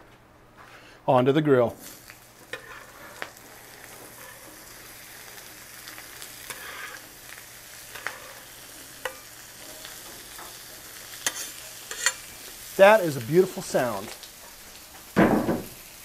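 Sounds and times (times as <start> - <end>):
vegetables sizzling in oil: 1.8 - 16.0.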